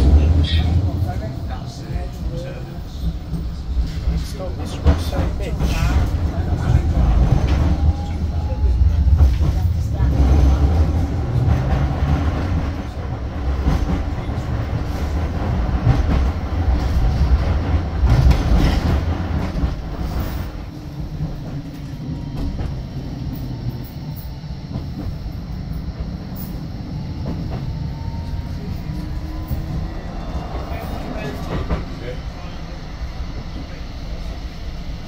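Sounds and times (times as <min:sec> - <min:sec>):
tram wheels rumbling on rails: 0:00.0 - 0:35.0.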